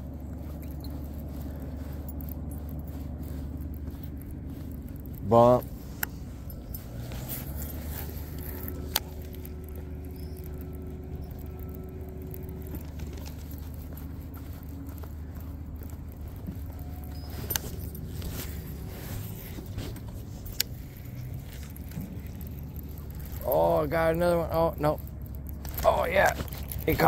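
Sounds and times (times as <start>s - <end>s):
electric trolling motor humming: 0.0s - 27.0s
high motor whine: 0.0s - 27.0s.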